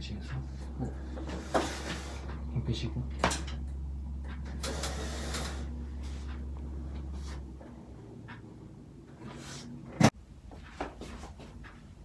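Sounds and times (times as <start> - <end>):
low hum: 0.0 - 10.5.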